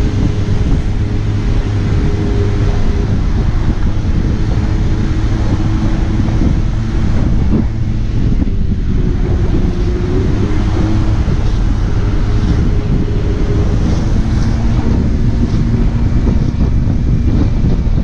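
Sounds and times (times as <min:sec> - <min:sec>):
small engine droning: 0:00.0 - 0:18.0
wind buffeting microphone: 0:00.0 - 0:18.0.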